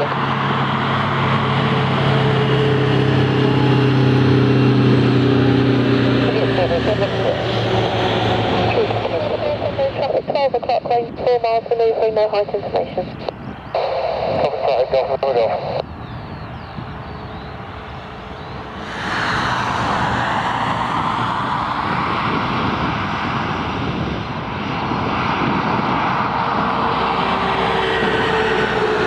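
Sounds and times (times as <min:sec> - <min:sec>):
jet engines at take-off power: 0:00.0 - 0:29.0.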